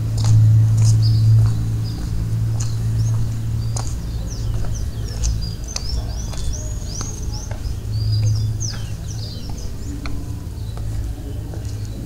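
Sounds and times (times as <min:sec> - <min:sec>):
low steady hum: 0:00.0 - 0:12.0
small birds chirping: 0:00.0 - 0:12.0.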